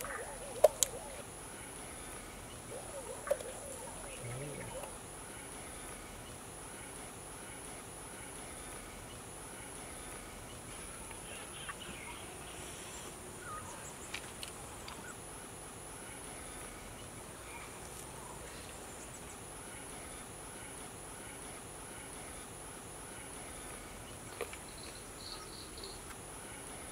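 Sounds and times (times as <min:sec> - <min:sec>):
faint bird calls: 0:00.0 - 0:26.9
insect whine: 0:00.0 - 0:26.9.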